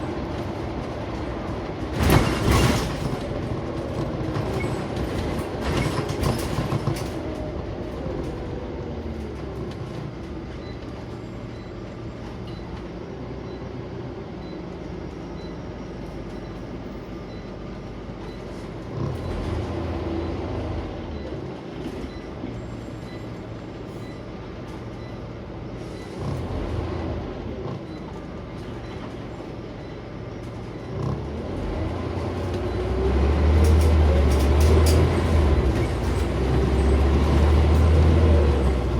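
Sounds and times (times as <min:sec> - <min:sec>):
bus body creaks and rattles: 0:00.0 - 0:38.9
bus diesel engine running: 0:00.0 - 0:38.9
road rumble: 0:00.0 - 0:38.9.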